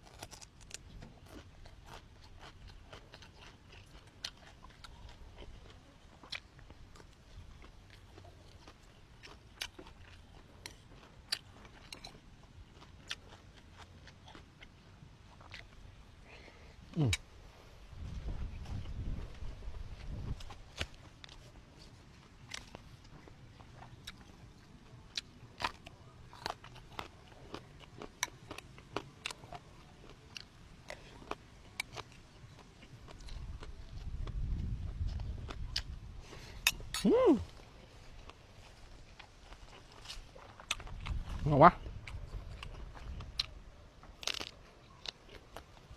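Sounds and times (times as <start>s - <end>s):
chewing and biting food: 0.0s - 17.3s, 18.0s - 45.9s
person eating crunching: 0.0s - 17.3s, 20.0s - 45.9s.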